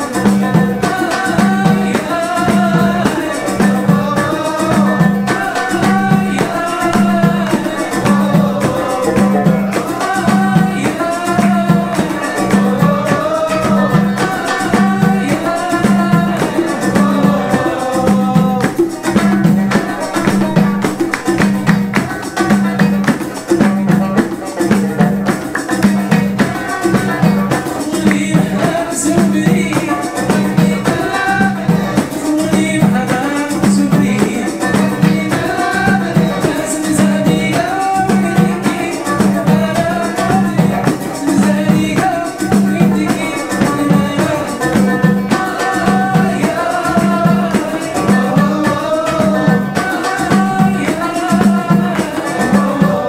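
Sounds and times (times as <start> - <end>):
banjo melody: 0.0 - 53.0
frame drum beat: 0.0 - 53.0
keyboard: 0.0 - 53.0.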